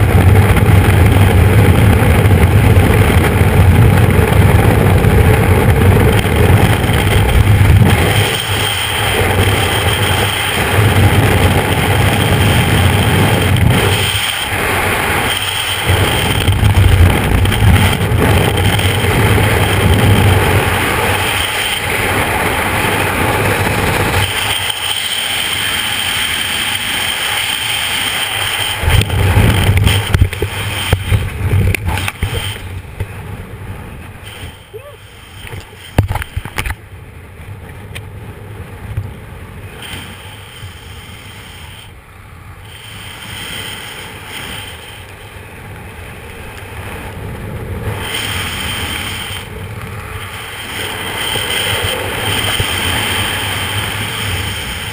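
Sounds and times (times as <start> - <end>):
wind roaring over microphone: 0.0 - 54.9.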